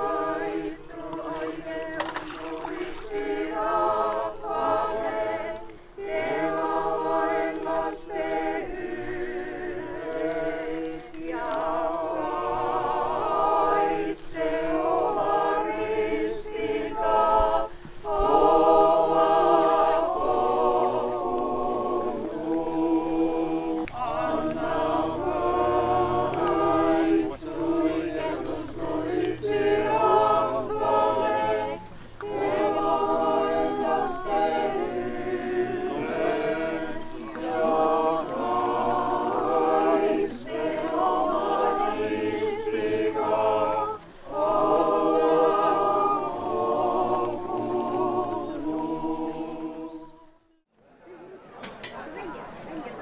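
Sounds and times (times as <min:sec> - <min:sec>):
choir singing a hymn: 0:00.0 - 0:50.6.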